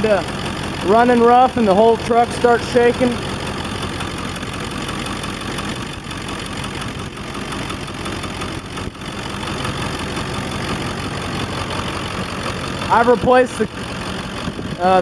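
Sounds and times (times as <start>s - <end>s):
diesel engine clattering: 0.0s - 15.0s.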